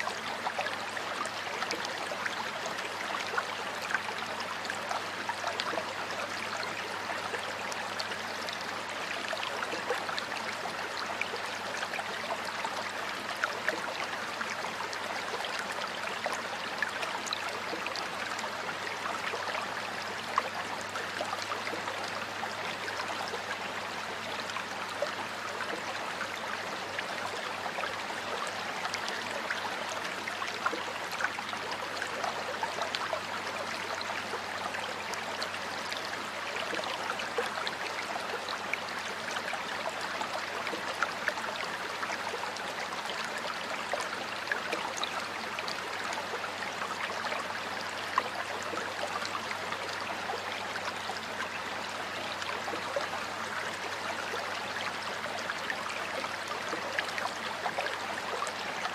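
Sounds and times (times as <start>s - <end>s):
stream water babbling: 0.0s - 58.9s.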